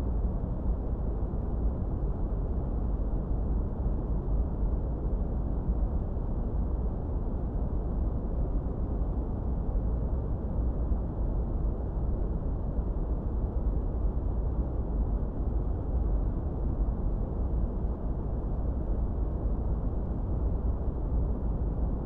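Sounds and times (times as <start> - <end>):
deep rumbling brown noise: 0.0 - 22.0.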